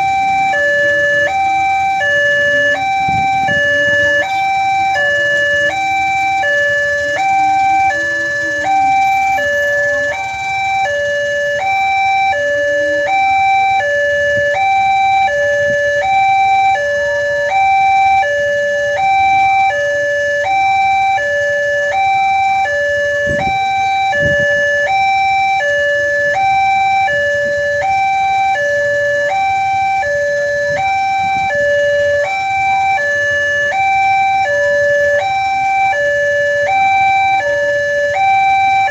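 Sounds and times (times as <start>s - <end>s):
two-note crossing alarm: 0.0s - 38.9s.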